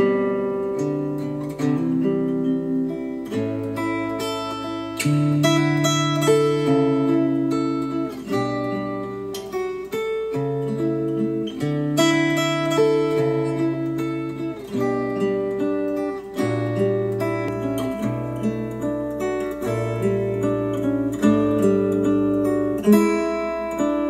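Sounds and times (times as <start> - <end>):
acoustic guitar music through speakers: 0.0 - 24.0.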